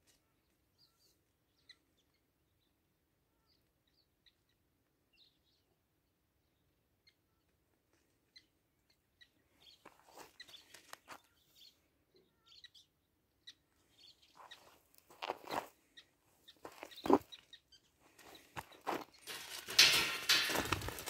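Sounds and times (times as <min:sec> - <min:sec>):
faint bird chirps: 0:00.0 - 0:05.8, 0:06.4 - 0:19.2.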